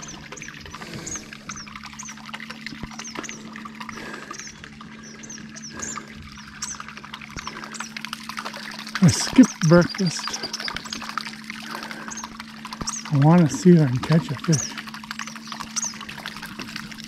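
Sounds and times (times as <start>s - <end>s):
bird chirping: 0.0s - 8.0s, 9.0s - 11.2s, 11.8s - 16.1s
propeller splashing water: 0.0s - 17.0s
small boat motor humming: 0.0s - 17.0s.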